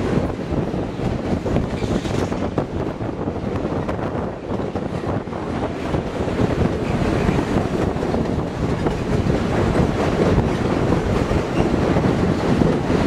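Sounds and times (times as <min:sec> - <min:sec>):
train wheels rumbling on rails: 0:00.0 - 0:13.0
wind on microphone: 0:00.0 - 0:13.0.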